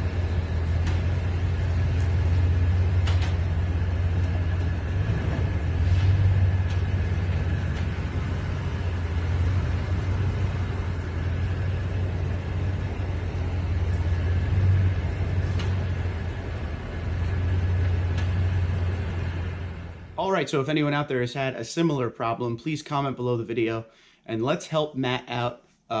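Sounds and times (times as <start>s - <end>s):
truck engine low rumble: 0.0s - 21.0s.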